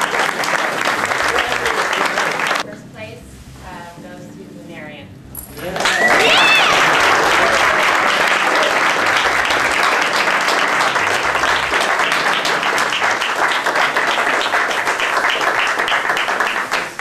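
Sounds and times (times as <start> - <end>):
crowd applauding: 0.0 - 2.7, 5.5 - 17.0.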